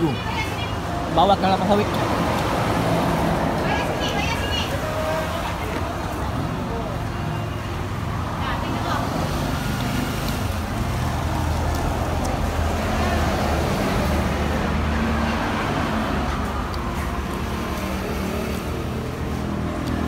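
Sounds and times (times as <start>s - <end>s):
vehicle passing: 0.0s - 7.1s, 7.7s - 20.0s
road traffic rumble: 0.0s - 20.0s.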